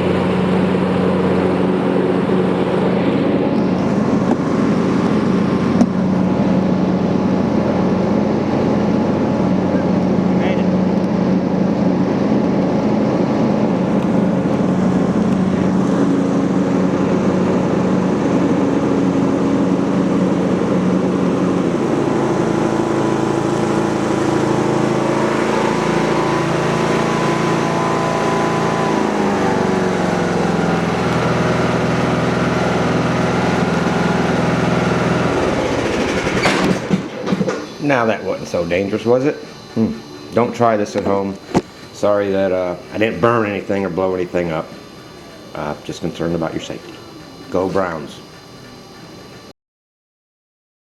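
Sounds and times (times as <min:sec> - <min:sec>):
riding lawn mower engine: 0:00.0 - 0:49.5.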